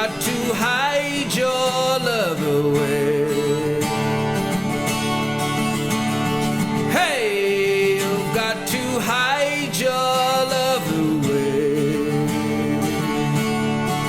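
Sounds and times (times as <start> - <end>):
man singing: 0.0 - 4.7, 6.8 - 14.0
acoustic guitar strummed: 0.0 - 14.0.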